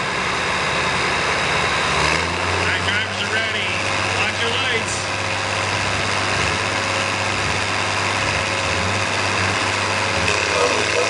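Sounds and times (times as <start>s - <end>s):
truck engines idling: 0.0s - 11.0s.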